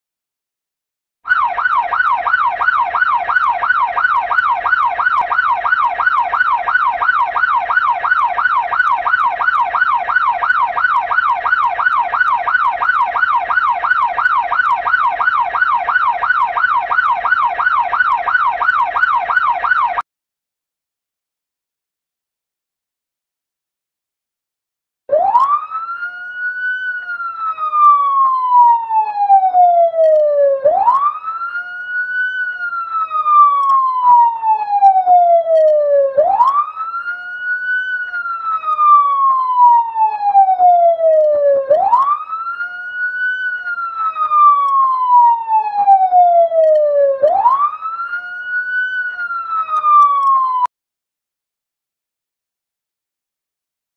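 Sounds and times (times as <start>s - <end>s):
police siren wailing: 1.3s - 20.0s, 25.1s - 50.7s.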